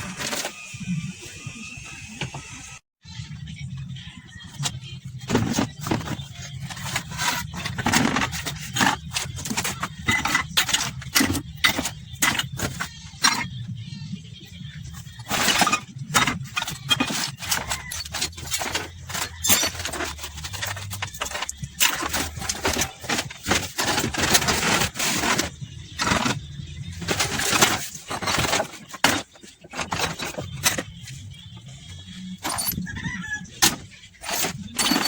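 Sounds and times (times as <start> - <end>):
metal engine parts clattering: 4.6 - 13.6, 14.8 - 35.0.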